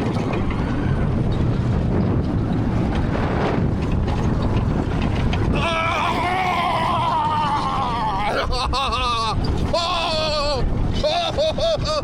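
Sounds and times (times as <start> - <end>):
roller coaster rumbling: 0.0 - 12.0
wind rushing over microphone: 0.0 - 12.0.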